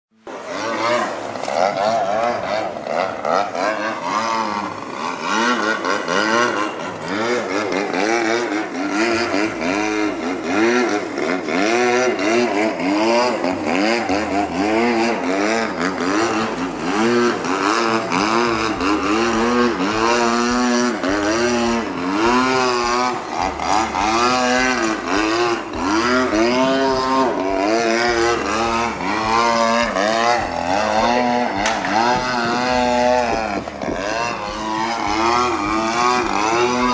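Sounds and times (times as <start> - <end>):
model airplane engine buzzing: 0.2 - 36.9.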